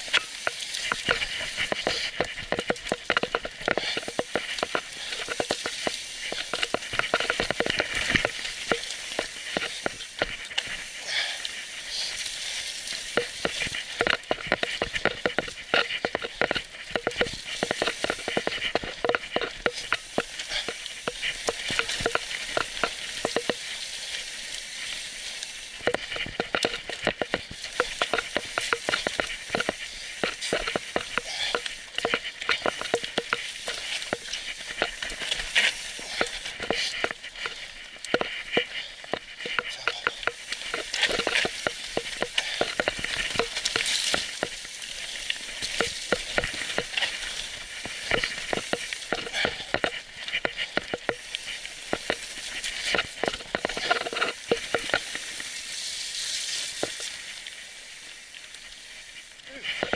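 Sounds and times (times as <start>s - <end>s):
bike rattling over stony trail: 0.0s - 59.9s
steady hiss: 0.0s - 59.9s.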